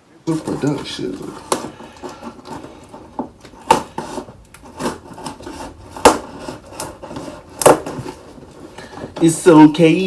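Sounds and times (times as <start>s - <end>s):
sharp scraping of packaging: 0.3s - 9.7s.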